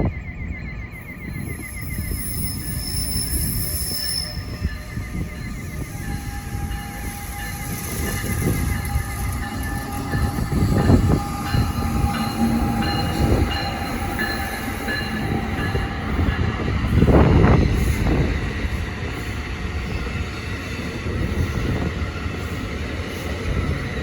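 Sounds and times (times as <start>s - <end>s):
train rumbling past: 1.3s - 24.0s.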